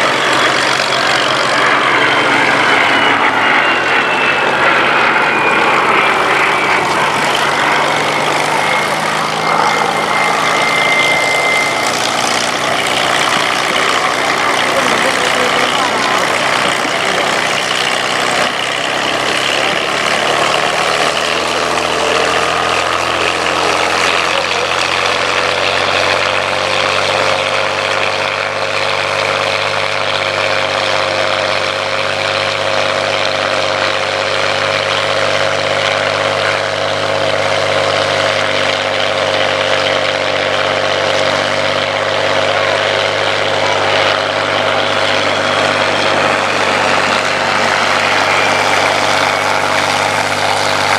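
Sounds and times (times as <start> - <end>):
piston aircraft engines droning: 0.0 - 50.9.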